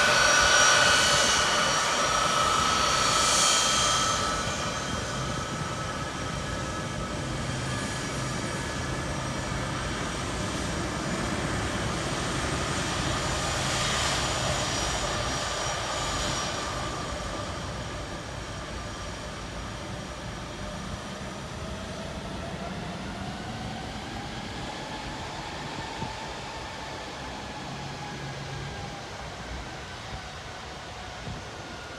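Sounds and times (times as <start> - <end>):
jet engines running: 0.0 - 31.9.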